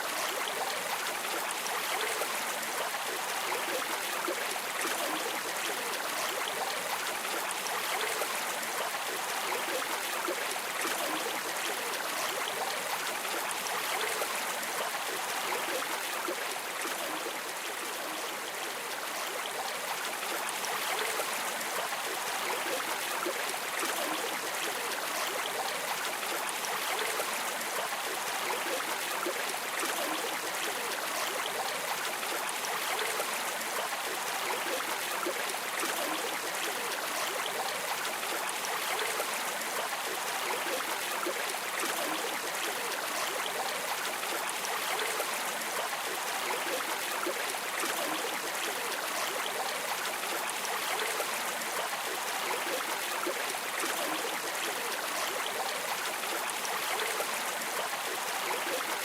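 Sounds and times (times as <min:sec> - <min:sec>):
stream water babbling: 0:00.0 - 0:59.0.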